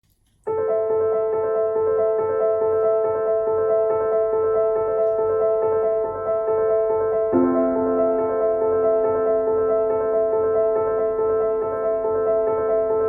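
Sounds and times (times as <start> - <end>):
piano background music: 0.4 - 13.0.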